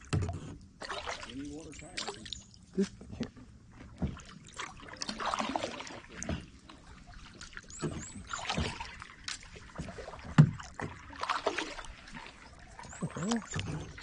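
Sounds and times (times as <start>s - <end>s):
paddle strokes through water: 0.0s - 14.0s.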